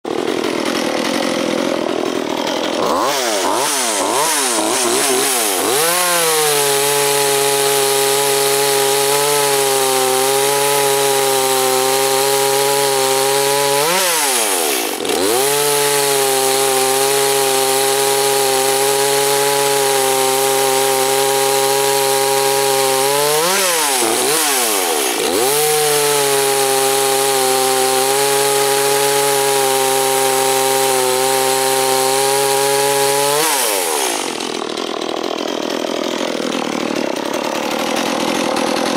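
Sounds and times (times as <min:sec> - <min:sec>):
chainsaw cutting into log: 0:00.0 - 0:38.9.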